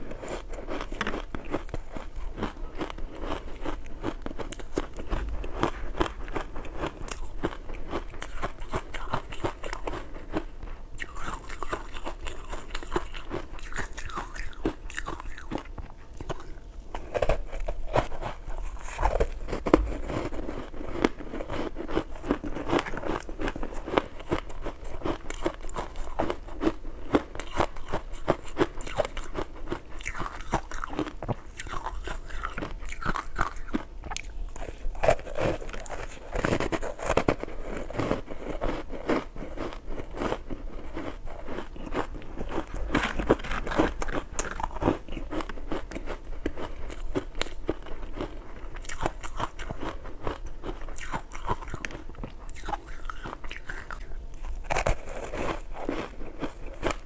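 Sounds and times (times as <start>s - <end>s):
crunching ice chewing: 0.0s - 57.0s.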